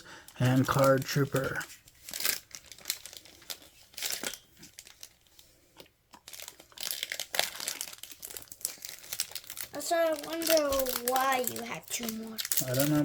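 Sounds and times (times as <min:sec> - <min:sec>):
foil wrappers crinkling: 0:00.1 - 0:13.0.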